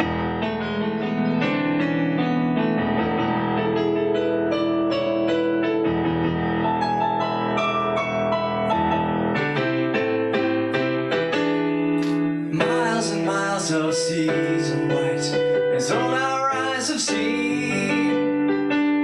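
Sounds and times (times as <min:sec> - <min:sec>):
electric piano playing: 0:00.0 - 0:19.0.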